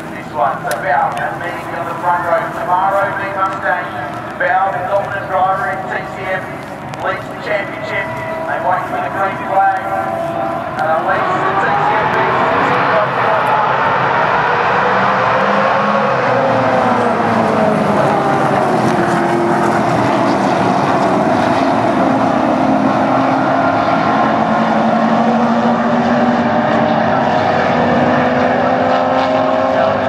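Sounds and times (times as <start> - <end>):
racing cars passing: 0.0 - 30.0.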